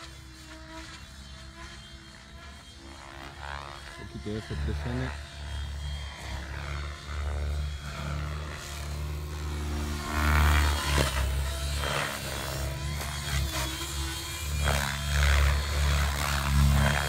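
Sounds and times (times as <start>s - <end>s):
rc helicopter rotor whirring: 0.0s - 17.0s.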